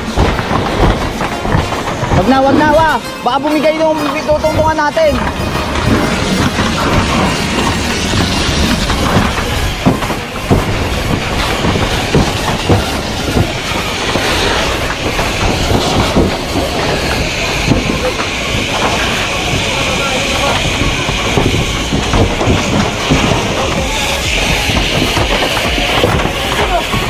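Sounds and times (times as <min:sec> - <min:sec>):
fire crackles and knocks: 0:00.0 - 0:27.0
water hissing and rushing: 0:00.0 - 0:27.0.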